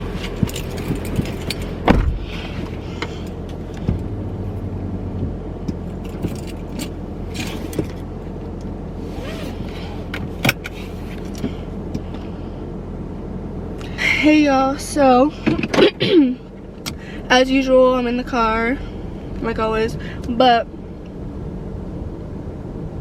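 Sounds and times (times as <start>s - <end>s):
car cabin hum: 0.0s - 23.0s.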